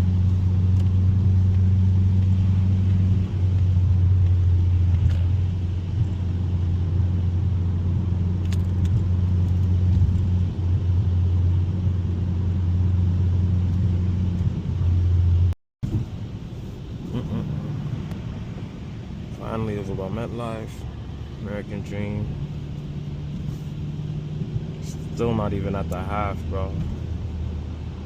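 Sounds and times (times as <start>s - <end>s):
car engine drone while driving: 0.0s - 28.0s
road noise: 0.0s - 28.0s.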